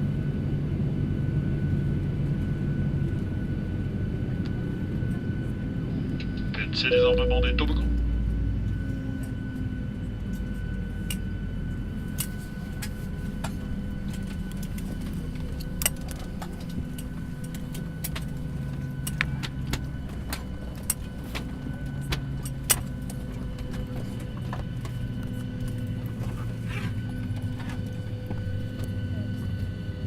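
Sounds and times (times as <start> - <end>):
aircraft cabin hum: 0.6 - 30.0.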